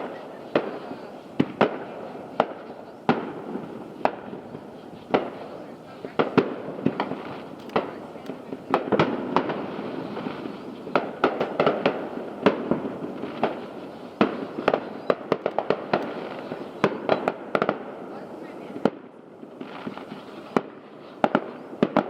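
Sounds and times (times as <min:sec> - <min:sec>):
fireworks bangs and pops: 0:00.0 - 0:22.0
fireworks crackling: 0:00.0 - 0:22.0
loud fireworks booms: 0:00.0 - 0:22.0.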